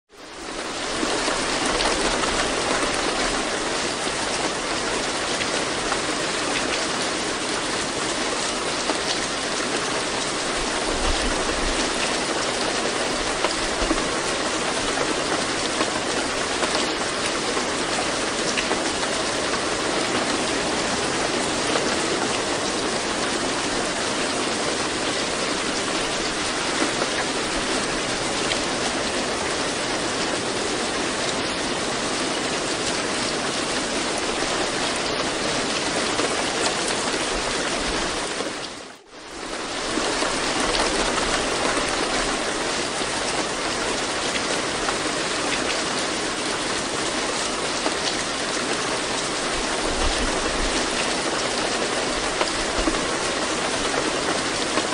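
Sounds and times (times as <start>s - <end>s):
steady rain falling: 0.1s - 54.9s.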